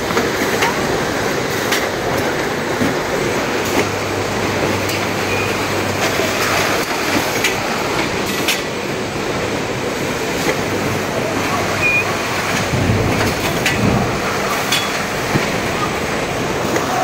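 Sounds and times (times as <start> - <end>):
low machine hum: 0.0 - 17.0
robotic packaging line running: 0.0 - 17.0.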